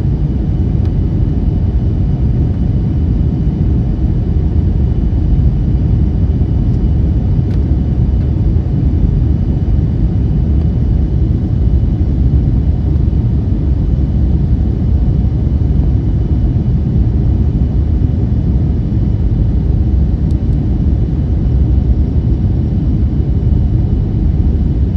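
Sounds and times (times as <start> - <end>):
airliner engine rumble: 0.0 - 24.9
faint high whine: 0.0 - 24.9.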